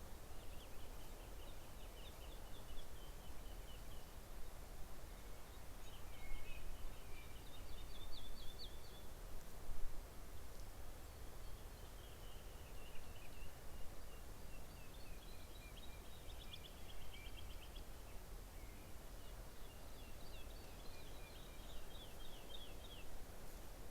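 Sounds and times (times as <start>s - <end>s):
small songbirds chirping: 0.0s - 9.6s, 10.2s - 23.9s.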